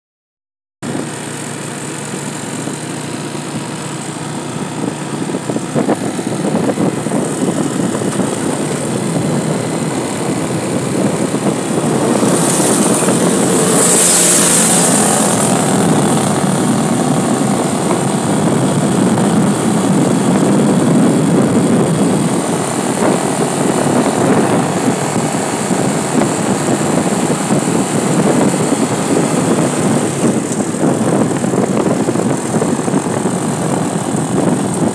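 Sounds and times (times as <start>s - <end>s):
road and wind noise: 0.8s - 34.9s
vehicle engine running: 0.8s - 34.9s.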